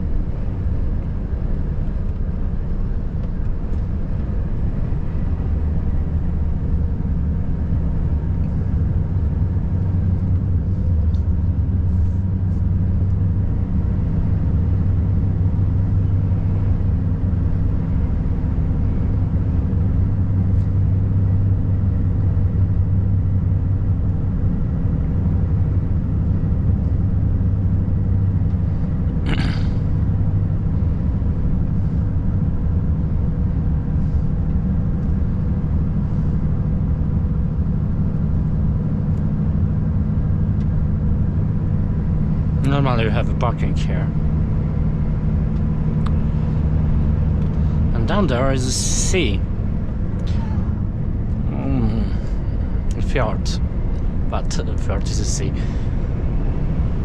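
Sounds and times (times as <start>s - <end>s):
road rumble: 0.0s - 57.0s
truck diesel engine drone: 0.0s - 57.0s.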